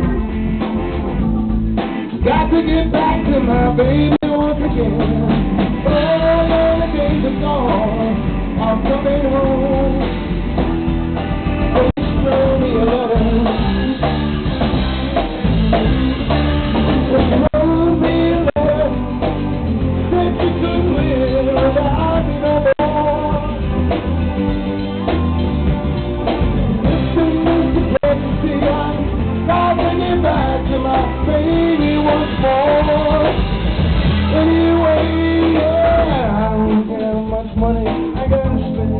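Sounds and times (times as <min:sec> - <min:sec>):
blues-rock band playing: 0:00.0 - 0:38.9
electric guitar: 0:00.0 - 0:38.9
person singing: 0:01.8 - 0:10.6, 0:11.5 - 0:14.4, 0:16.9 - 0:25.4, 0:26.7 - 0:33.6, 0:34.2 - 0:38.9.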